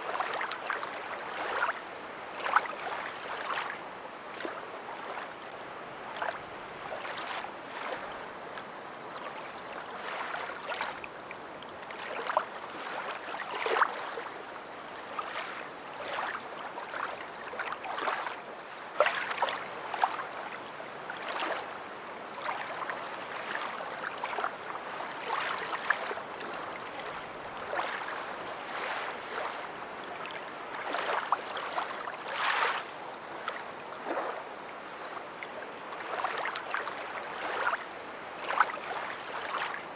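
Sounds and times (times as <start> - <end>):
water splashing and lapping: 0.0 - 39.9.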